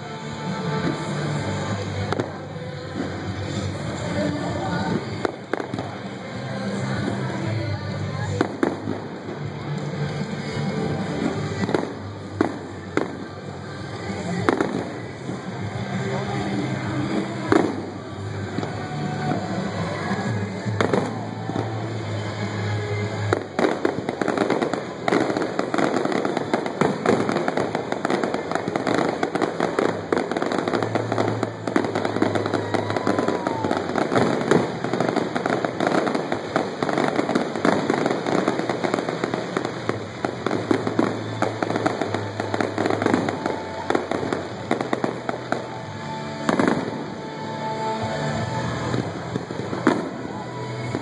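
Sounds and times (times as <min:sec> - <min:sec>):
fireworks bangs and crackling: 0:00.0 - 0:51.0
music playing: 0:00.0 - 0:51.0.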